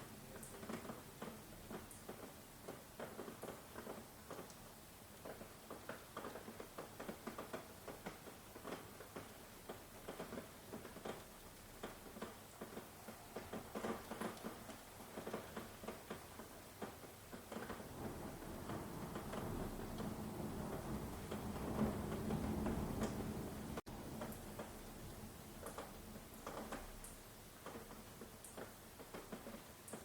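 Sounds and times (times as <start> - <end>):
rain hiss: 0.0 - 30.0
raindrops ticking: 0.0 - 30.0.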